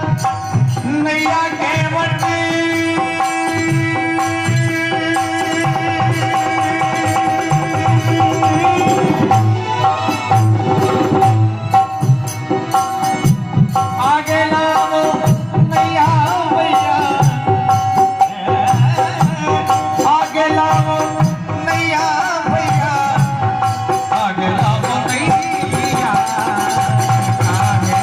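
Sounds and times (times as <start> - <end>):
hand drum beats: 0.0 - 28.0.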